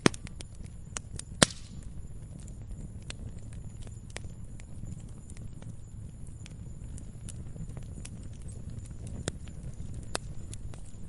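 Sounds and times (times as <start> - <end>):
log fire crackling: 0.0 - 11.0
sharp pops of burning wood: 0.0 - 11.0.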